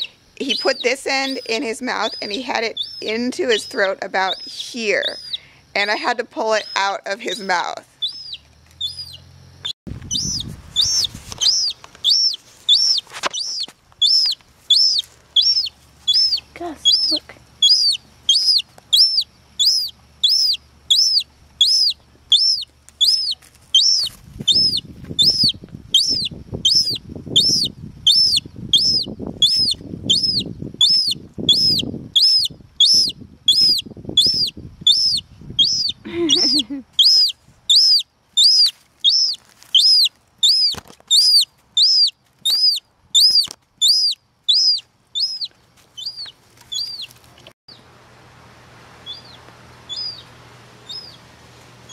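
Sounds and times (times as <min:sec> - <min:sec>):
gull chick begging peeps: 0:00.0 - 0:09.3, 0:10.1 - 0:47.2, 0:49.0 - 0:51.2.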